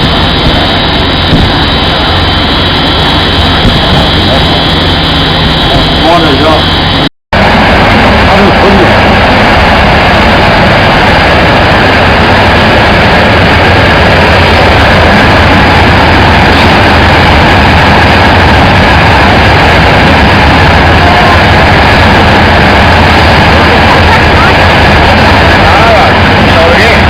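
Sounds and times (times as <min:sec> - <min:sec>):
loud steady machine noise: 0:00.0 - 0:27.0
low hum: 0:00.0 - 0:27.0.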